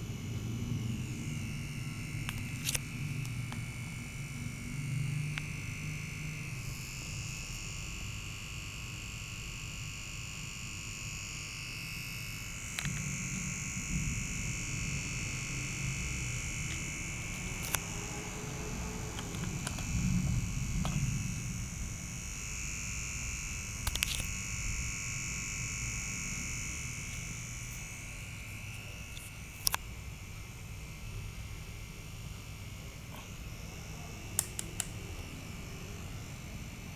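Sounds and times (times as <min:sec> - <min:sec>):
low hum: 0:00.0 - 0:09.3, 0:10.5 - 0:36.9.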